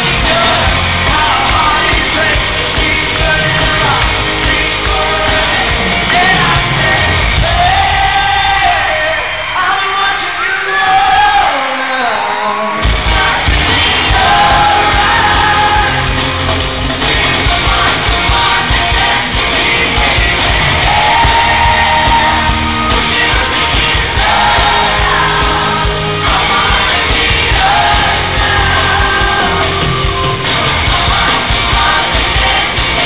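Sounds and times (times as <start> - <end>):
amplified pop band: 0.0 - 33.0
crowd cheering and screaming: 0.0 - 33.0
group singing live: 0.0 - 33.0.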